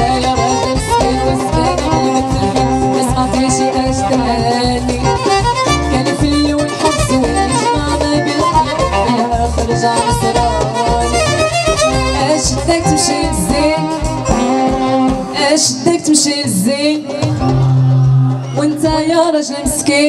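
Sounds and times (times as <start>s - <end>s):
band lead melody: 0.0s - 20.0s.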